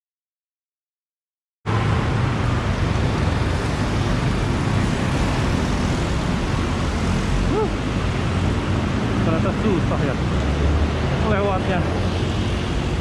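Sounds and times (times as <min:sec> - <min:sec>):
road traffic rumble: 0:01.7 - 0:13.0.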